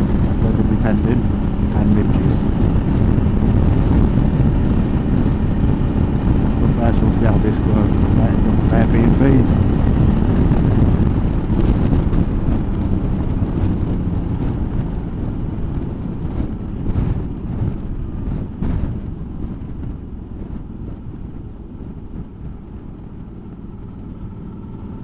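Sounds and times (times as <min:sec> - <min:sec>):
motorcycle engine rumble: 0:00.0 - 0:25.0
wind and road noise: 0:00.0 - 0:25.0.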